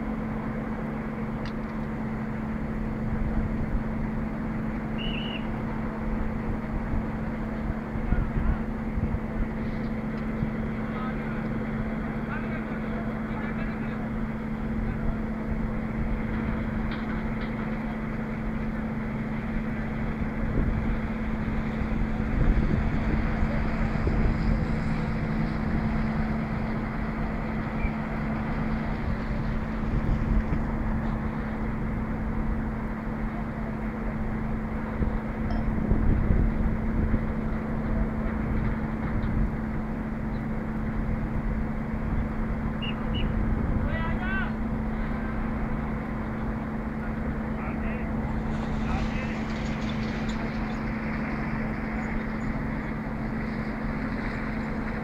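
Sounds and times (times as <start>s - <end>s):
diesel engine running: 0.0s - 55.0s
wind rumbling on microphone: 0.0s - 55.0s.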